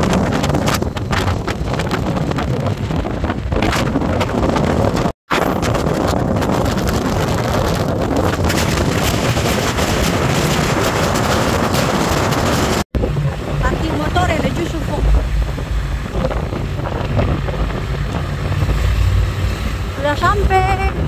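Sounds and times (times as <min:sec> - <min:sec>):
road and engine noise: 0:00.0 - 0:21.0
wind buffeting microphone: 0:00.0 - 0:21.0.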